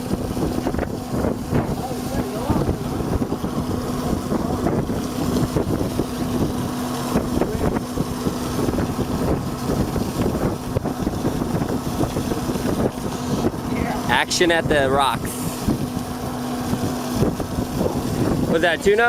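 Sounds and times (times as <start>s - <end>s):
boat engine humming: 0.0s - 19.0s
wind buffeting microphone: 0.0s - 19.0s.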